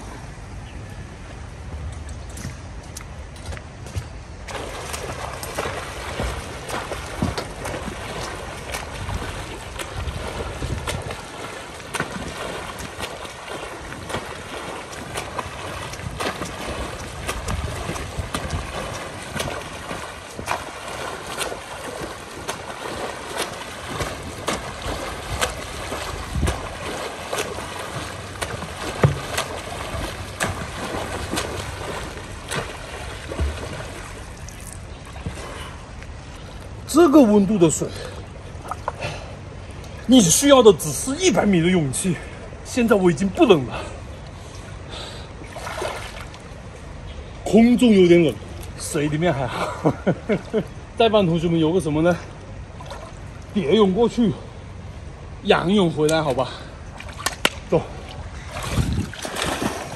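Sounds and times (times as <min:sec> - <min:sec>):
swimmer splashing water: 0:04.2 - 0:59.9.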